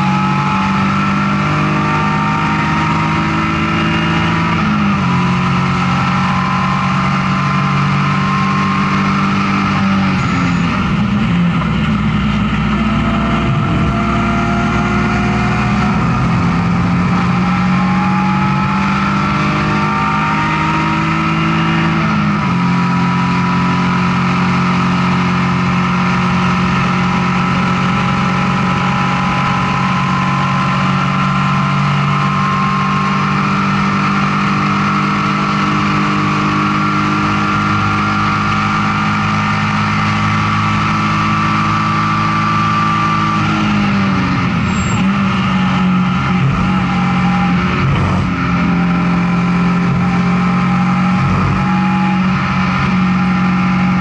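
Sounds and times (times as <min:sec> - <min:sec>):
race car engine running hard: 0:00.0 - 0:54.0.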